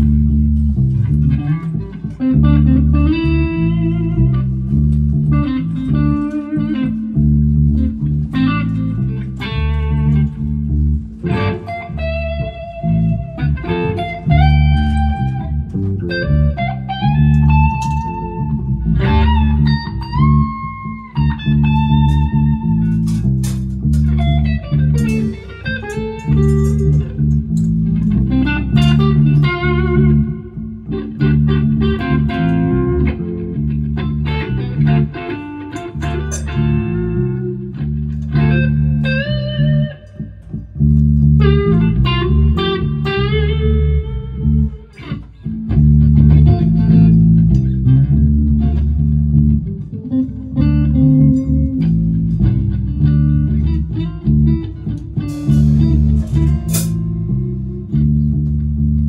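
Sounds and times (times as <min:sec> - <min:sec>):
electric guitar lead line: 0:00.0 - 0:59.0
low sustained bass part: 0:00.0 - 0:59.0.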